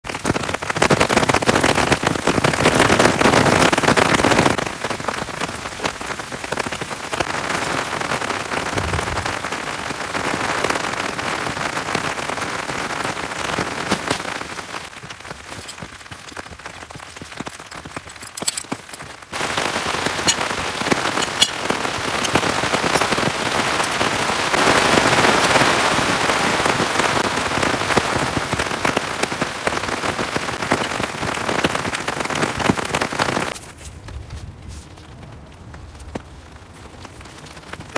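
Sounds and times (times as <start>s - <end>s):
heavy rain: 0.0s - 33.6s.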